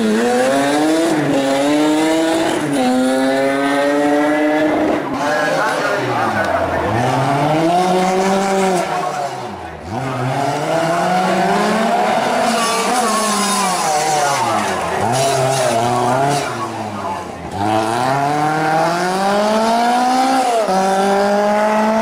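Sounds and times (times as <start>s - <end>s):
rally car engine under hard throttle: 0.0s - 22.0s.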